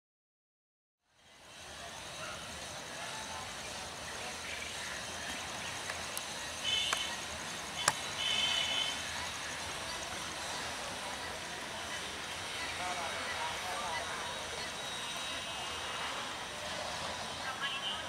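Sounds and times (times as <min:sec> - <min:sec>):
distant voices and activity: 0:01.2 - 0:18.0.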